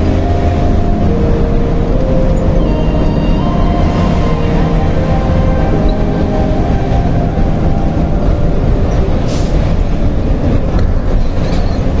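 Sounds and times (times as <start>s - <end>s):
background music: 0.0s - 10.7s
heavy vehicle engine rumble: 0.0s - 12.0s
road noise: 0.0s - 12.0s.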